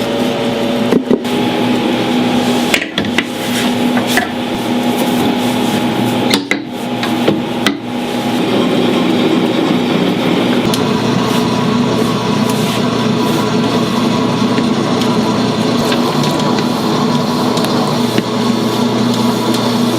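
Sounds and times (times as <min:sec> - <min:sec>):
steady machine hum: 0:00.0 - 0:19.9.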